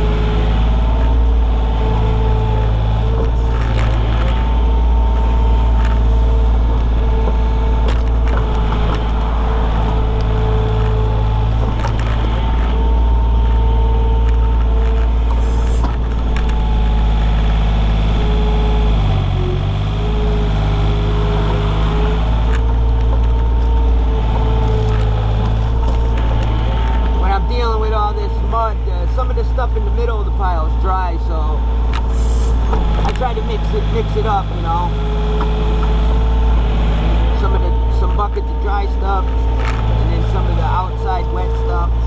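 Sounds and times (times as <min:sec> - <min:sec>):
excavator diesel engine running: 0:00.0 - 0:42.0
hydraulic whine: 0:00.0 - 0:42.0.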